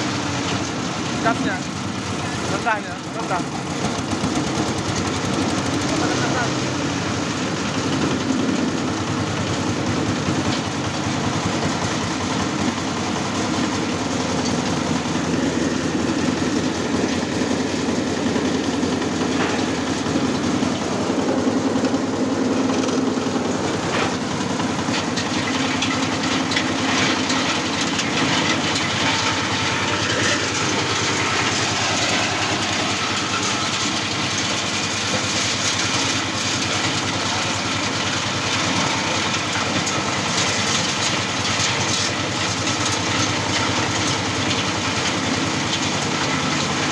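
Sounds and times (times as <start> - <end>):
machine engine hum: 0.0 - 46.9
rattle of nuts and husks tumbling: 0.0 - 46.9.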